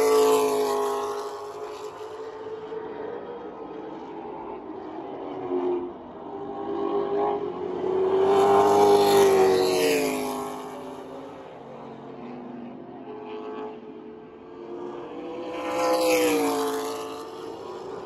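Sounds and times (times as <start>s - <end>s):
race car passing by: 0.0s - 18.0s
stock car engines racing: 0.0s - 18.0s.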